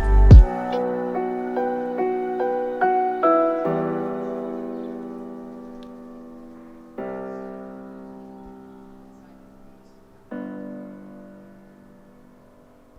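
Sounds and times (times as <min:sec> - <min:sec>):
soft piano chords ringing: 0:00.0 - 0:12.9.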